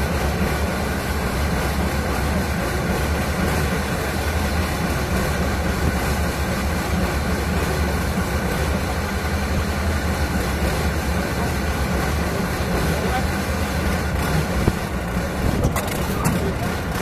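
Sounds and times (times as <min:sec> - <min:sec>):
heavy vehicle engine idling: 0:00.0 - 0:17.0.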